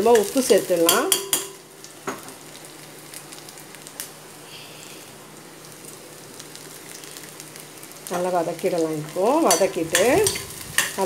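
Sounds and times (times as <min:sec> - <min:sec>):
oil sizzling with frying vegetables: 0:00.0 - 0:11.0.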